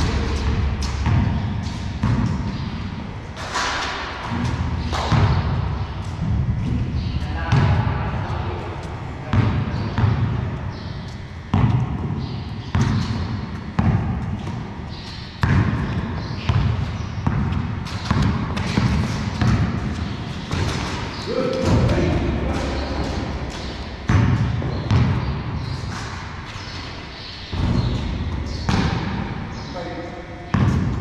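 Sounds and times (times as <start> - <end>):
basketball bouncing on concrete: 0.0 - 8.0, 9.3 - 26.0, 27.5 - 29.6, 30.5 - 31.0.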